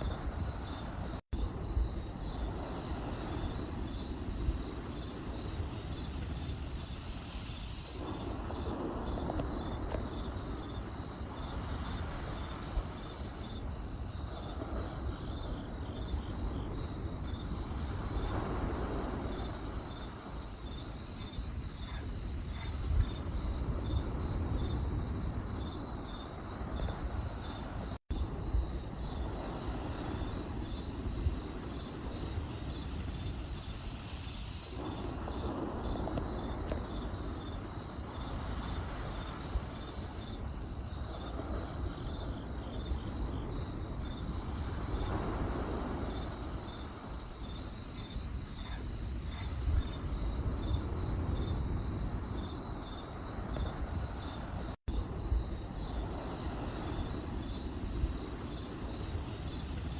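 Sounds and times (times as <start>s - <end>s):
campfire crackling: 0.0s - 59.9s
crickets chirping: 0.0s - 59.9s.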